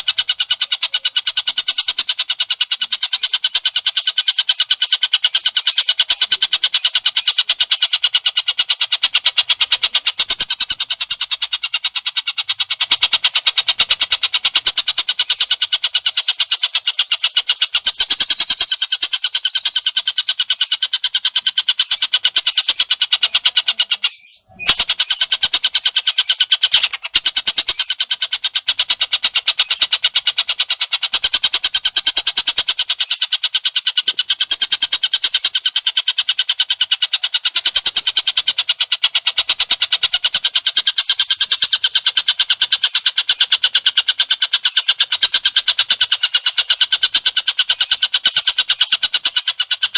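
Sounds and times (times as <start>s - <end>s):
songbird chattering trill: 0.0s - 49.9s.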